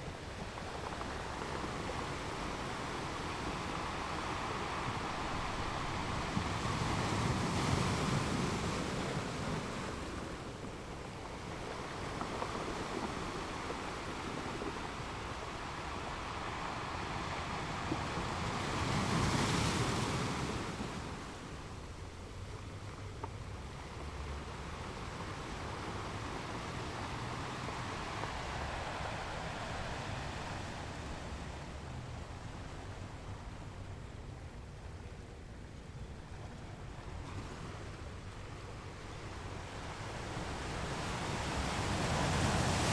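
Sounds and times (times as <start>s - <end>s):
ocean waves washing ashore: 0.0s - 42.9s.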